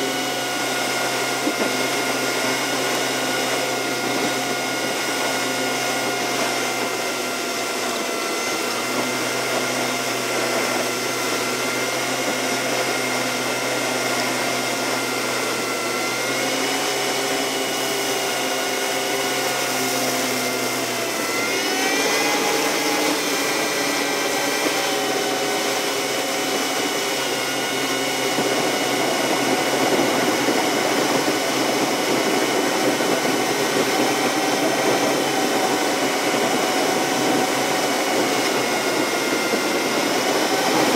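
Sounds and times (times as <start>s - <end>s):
sped-up car engine whine: 0.0s - 40.9s.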